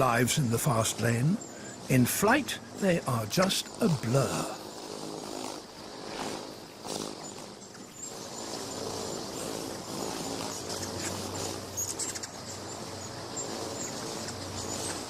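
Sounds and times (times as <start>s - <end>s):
hummingbird wings humming: 0.0s - 15.0s.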